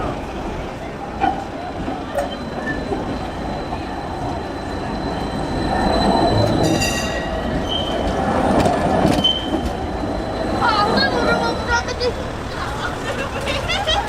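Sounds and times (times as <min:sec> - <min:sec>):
tram wheels squealing on rails: 0:00.0 - 0:14.0.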